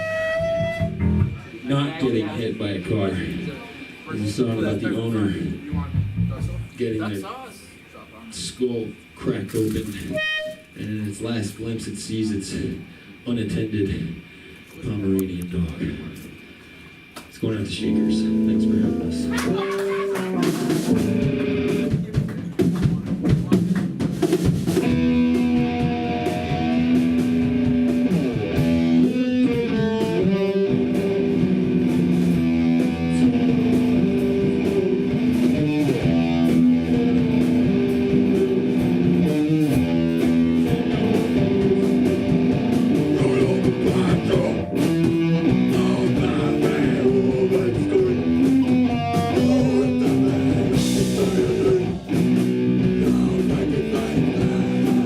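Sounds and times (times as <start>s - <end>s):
punk band playing: 0.0s - 7.1s, 9.0s - 10.8s, 15.9s - 55.0s.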